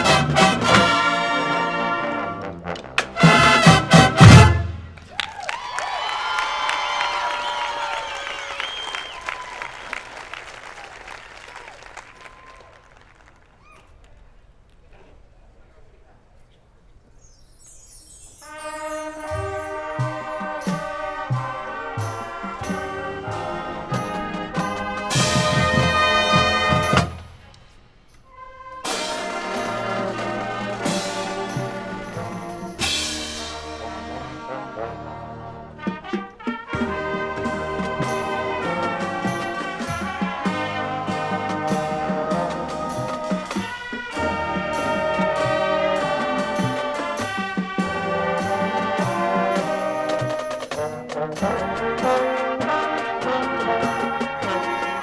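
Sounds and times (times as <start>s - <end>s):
marching band brass and percussion: 0.0s - 12.9s, 17.9s - 55.0s.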